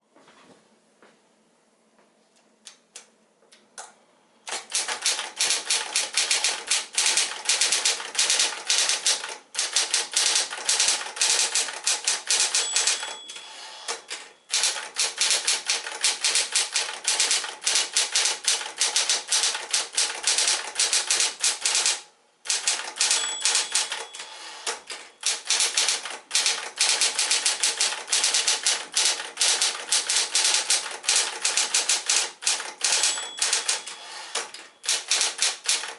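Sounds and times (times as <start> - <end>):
typewriter bell ring: 4.5 - 35.9
typewriter key strikes: 4.5 - 35.9
typewriter motor hum: 4.5 - 35.9.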